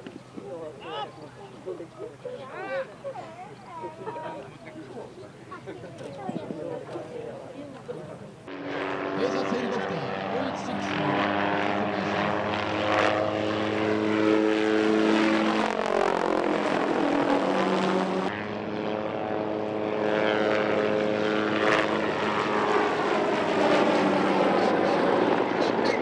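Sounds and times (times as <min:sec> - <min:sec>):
aircraft engine drone: 0:00.0 - 0:26.0.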